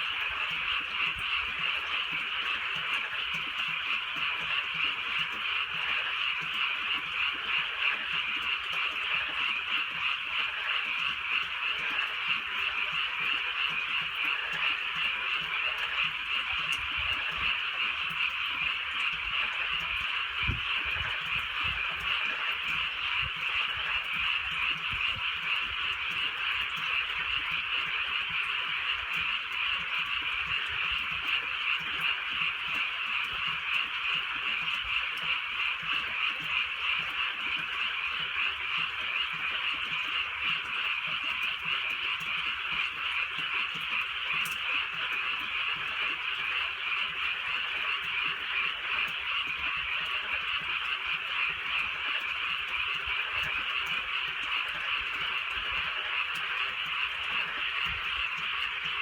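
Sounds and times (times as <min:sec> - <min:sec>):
chorus of frogs croaking: 0:00.0 - 0:59.0.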